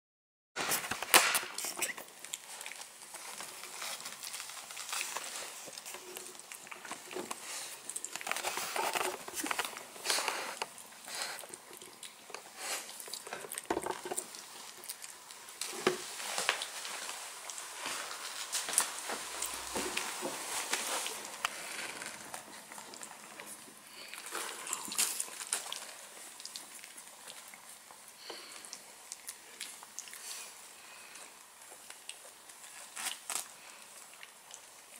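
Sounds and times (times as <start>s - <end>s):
dog licking puppies: 1.6s - 34.9s.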